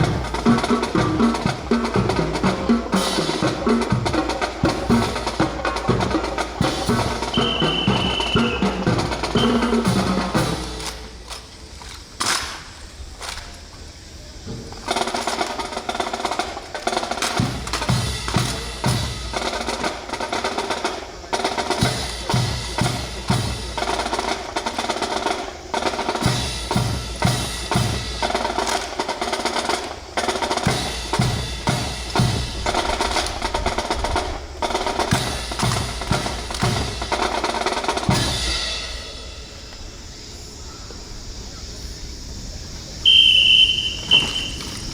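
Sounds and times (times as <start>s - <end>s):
drum-led music with snare rolls: 0.0s - 11.4s, 14.8s - 39.5s.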